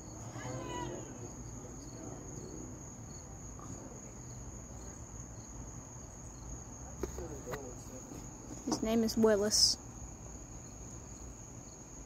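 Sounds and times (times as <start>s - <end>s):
cricket trill: 0.0s - 12.0s.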